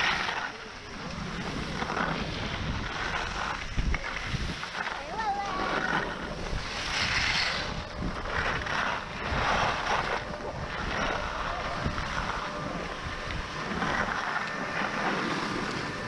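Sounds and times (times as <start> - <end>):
skis scraping over snow: 0.0 - 16.0
wind rushing over microphone: 0.8 - 16.0.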